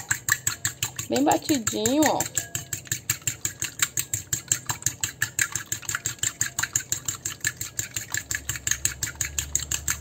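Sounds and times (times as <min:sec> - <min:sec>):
egg beaten in bowl: 0:00.0 - 0:10.0.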